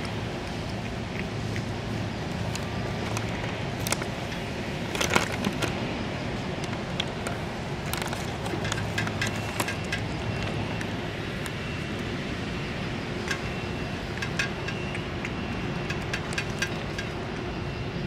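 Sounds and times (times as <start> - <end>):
cat lapping and chewing: 0.0 - 17.4
steady low hum: 0.0 - 18.0.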